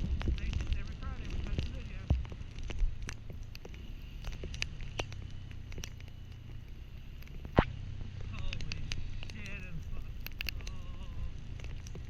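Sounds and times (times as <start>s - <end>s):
low steady rumble: 0.0s - 12.0s
raindrops tapping on microphone: 0.0s - 12.0s.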